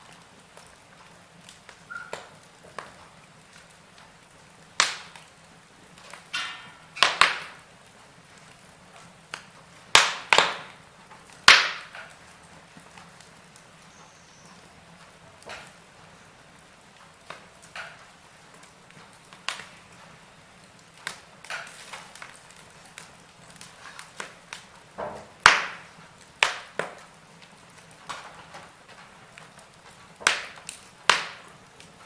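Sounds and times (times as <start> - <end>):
faint steady hiss: 0.0 - 32.0
wood fire crackling and popping: 0.0 - 32.0.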